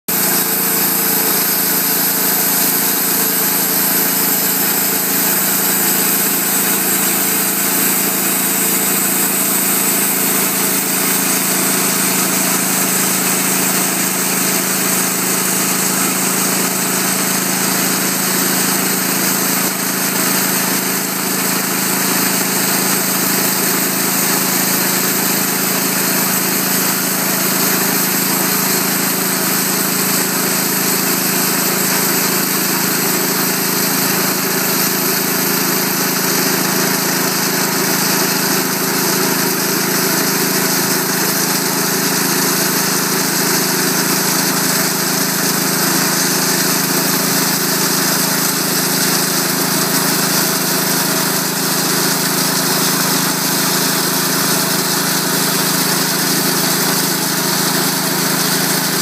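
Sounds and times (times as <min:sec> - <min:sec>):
gas engine running: 0:00.0 - 0:59.0
band saw blade cutting log: 0:00.1 - 0:59.0.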